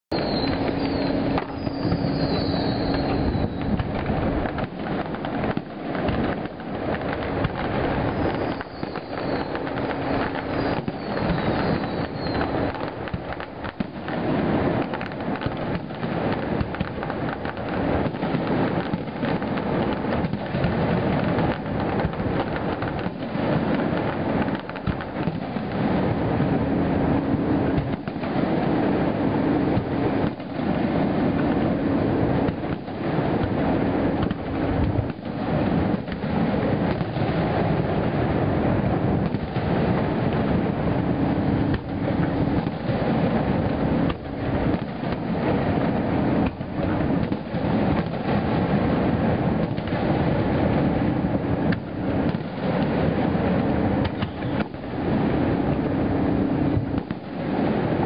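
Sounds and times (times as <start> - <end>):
fireworks booming and crackling: 0.0 - 58.0
fireworks whistling: 0.0 - 58.0.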